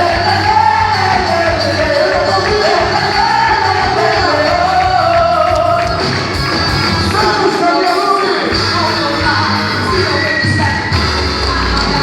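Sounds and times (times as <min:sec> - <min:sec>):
loud dance music: 0:00.0 - 0:12.0.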